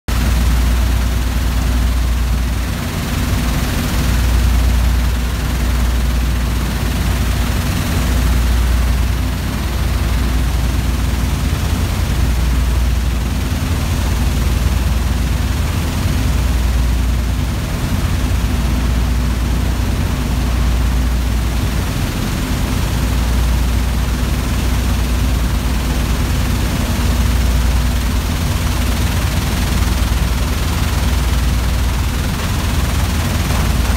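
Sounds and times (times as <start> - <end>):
loud machine drone: 0.1 - 33.9.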